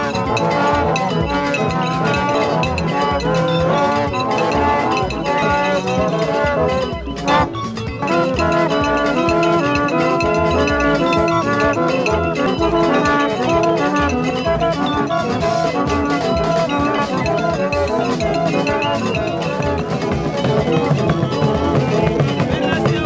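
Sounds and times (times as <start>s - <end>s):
horns playing short notes: 0.0s - 23.0s
steady drum beat: 0.0s - 23.0s.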